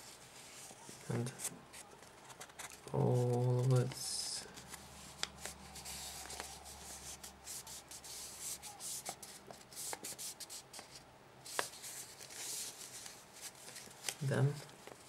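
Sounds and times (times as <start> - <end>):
paper being folded: 0.0 - 15.0
paper crackling: 0.0 - 15.0.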